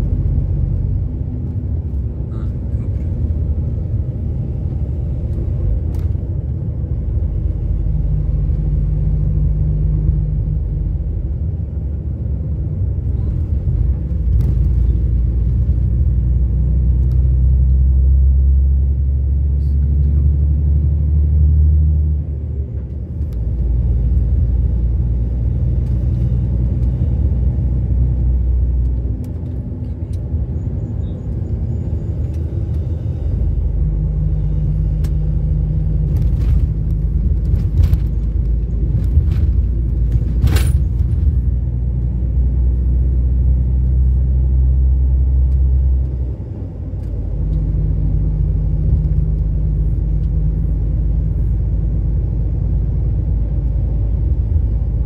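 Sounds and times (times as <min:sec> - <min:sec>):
vehicle engine drone: 0:00.0 - 0:55.0.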